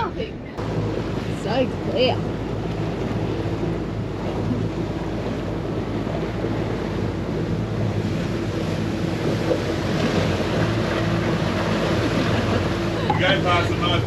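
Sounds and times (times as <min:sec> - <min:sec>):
boat motor humming: 0:00.0 - 0:14.0
water rushing past hull: 0:00.0 - 0:14.0
wind buffeting microphone: 0:00.0 - 0:14.0.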